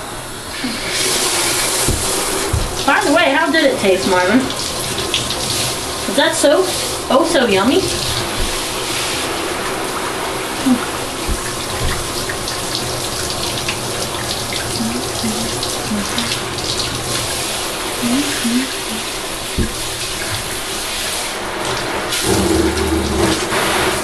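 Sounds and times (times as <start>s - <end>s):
shower sprayer water spraying: 0.0s - 24.0s.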